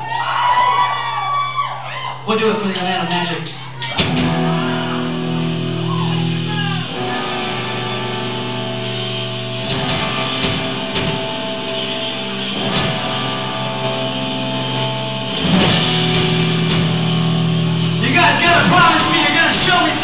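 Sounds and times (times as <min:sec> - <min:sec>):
live rock band playing: 0:02.1 - 0:20.0
drum hits: 0:02.8 - 0:08.6, 0:09.6 - 0:20.0
electric guitar chords ringing: 0:03.0 - 0:20.0.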